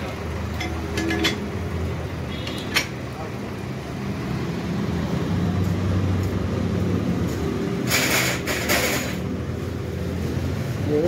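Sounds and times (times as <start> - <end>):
diesel crane engine running: 0.0 - 11.0.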